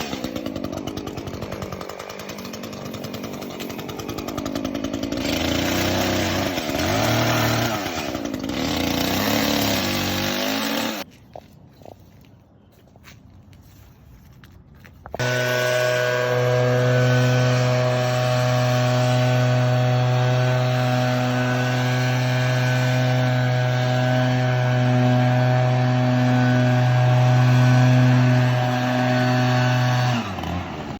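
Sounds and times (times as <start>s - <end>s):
chainsaw cutting limbs: 0.0s - 11.1s, 15.1s - 30.9s.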